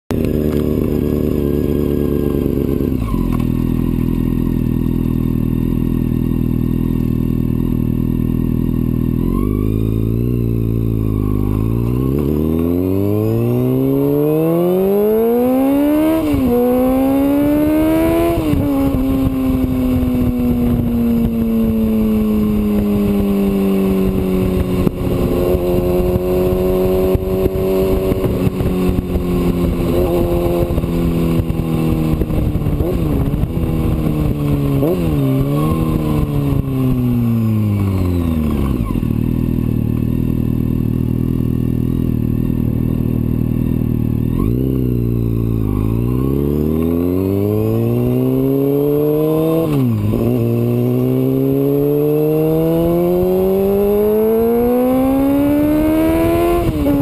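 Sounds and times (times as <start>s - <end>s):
motorcycle engine revving: 0.1s - 57.0s.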